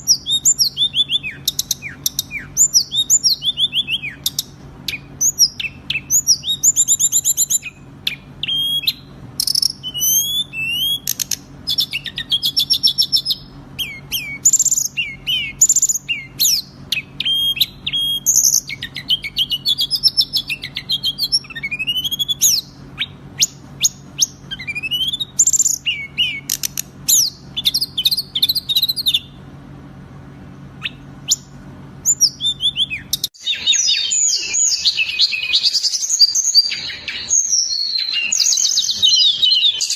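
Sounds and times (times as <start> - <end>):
songbird singing trills and whistles: 0.0 - 29.4, 30.8 - 39.9.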